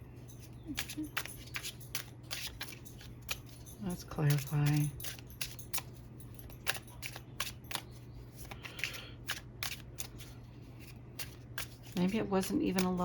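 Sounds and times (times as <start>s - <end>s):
cards being shuffled: 0.6s - 3.6s, 4.3s - 13.0s.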